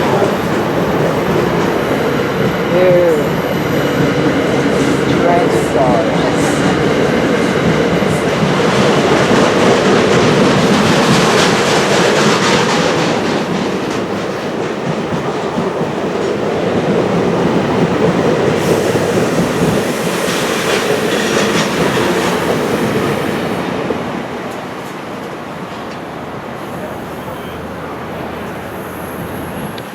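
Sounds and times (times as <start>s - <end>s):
train rolling on rails: 0.0s - 29.9s.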